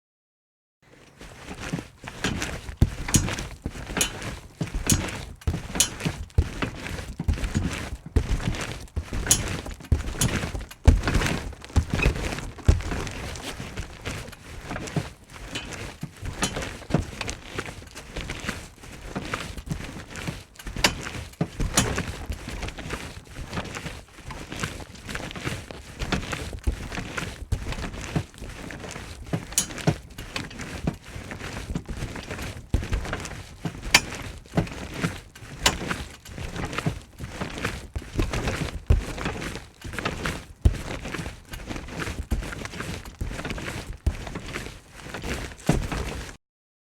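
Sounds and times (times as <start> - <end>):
trampoline thumps: 1.4 - 24.6, 26.0 - 46.3.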